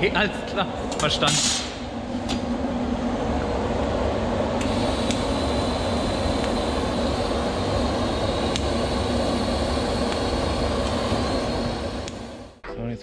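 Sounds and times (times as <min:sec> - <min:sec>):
mechanical running noise: 0:00.0 - 0:12.6.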